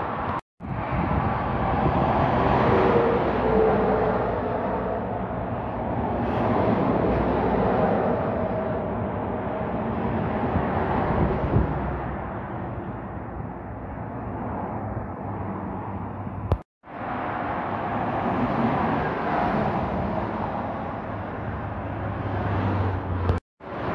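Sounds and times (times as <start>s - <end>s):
highway traffic passing: 0.0s - 23.9s.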